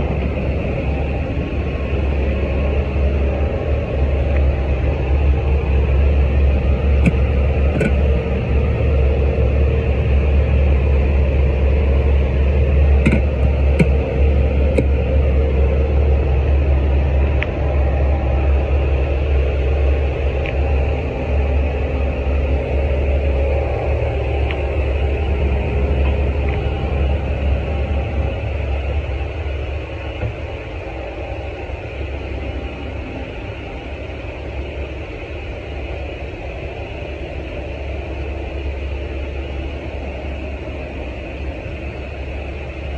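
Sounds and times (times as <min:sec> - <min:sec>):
machinery rumble with hiss: 0:00.0 - 0:42.9.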